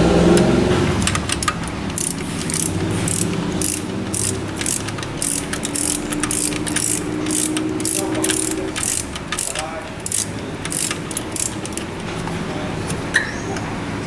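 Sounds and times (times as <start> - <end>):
ratchet wrench clicking: 0.4 - 12.0.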